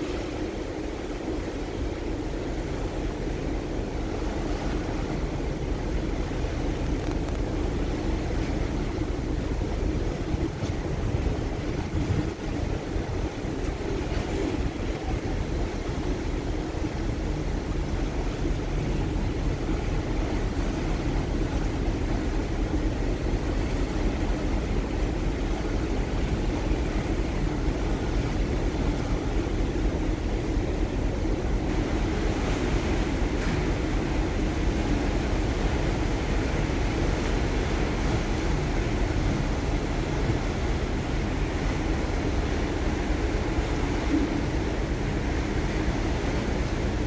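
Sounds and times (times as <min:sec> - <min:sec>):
ferry engine drone: 0:00.0 - 0:47.0
wind buffeting microphone: 0:06.8 - 0:47.0.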